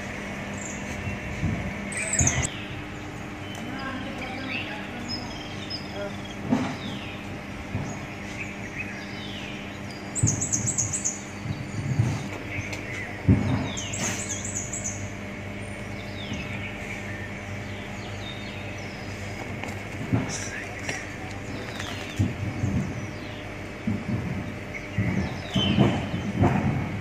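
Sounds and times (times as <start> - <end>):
low mechanical hum: 0.0 - 27.0
small birds chirping: 0.0 - 27.0.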